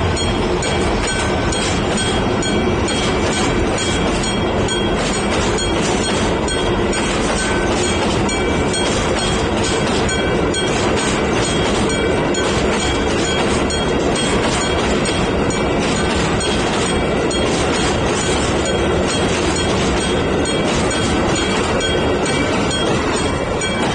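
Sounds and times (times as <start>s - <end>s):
crossing warning bell ringing: 0.0s - 23.9s.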